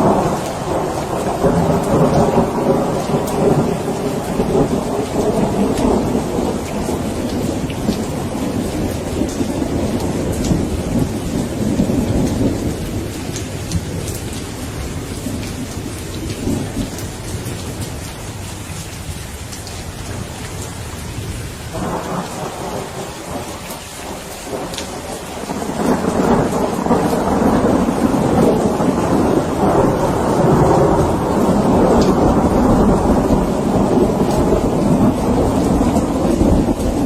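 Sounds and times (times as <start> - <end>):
steady rain: 0.0 - 37.0
thunder rumbling: 0.0 - 37.0.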